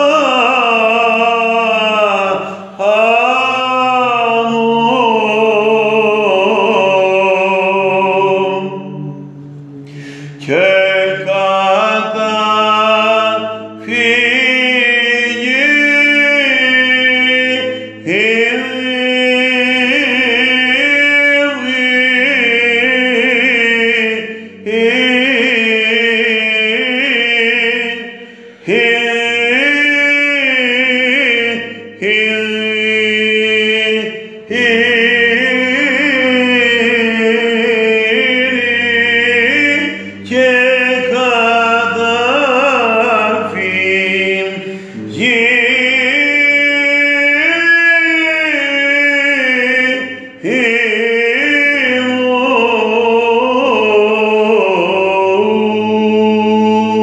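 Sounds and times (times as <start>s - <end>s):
low held vocal drone: 0.0s - 57.0s
man chanting a hymn: 0.0s - 57.0s.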